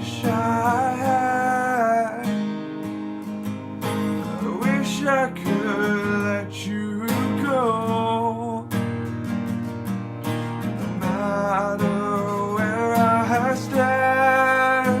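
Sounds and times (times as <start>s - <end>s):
sliding guitar melody: 0.0s - 15.0s
strummed guitar chords: 0.0s - 15.0s.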